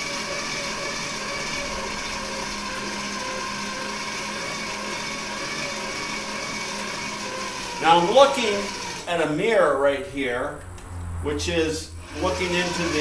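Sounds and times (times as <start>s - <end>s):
hand-crank blower fan whirring: 0.0s - 13.0s.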